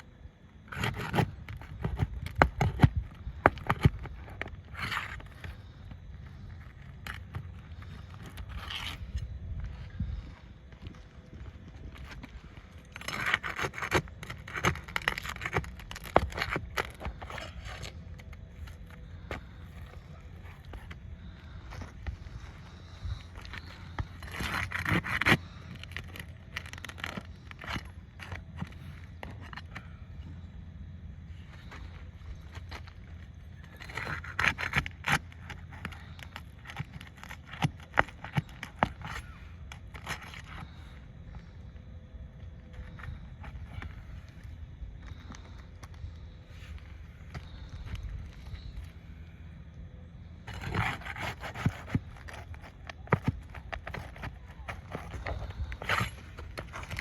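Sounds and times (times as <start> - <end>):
hand scraping roof shingles: 0.0 - 57.0.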